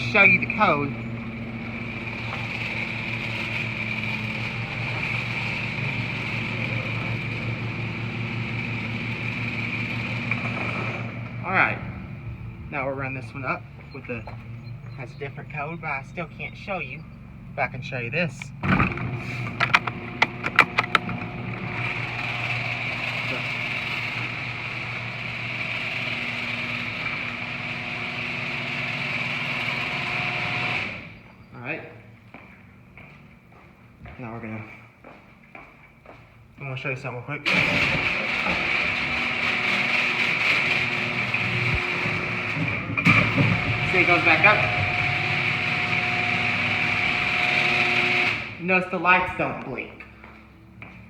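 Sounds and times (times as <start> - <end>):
garage door opener motor hum: 0.0 - 17.6, 18.4 - 32.9, 37.4 - 49.4
whirring whine: 0.0 - 33.1, 37.5 - 51.0.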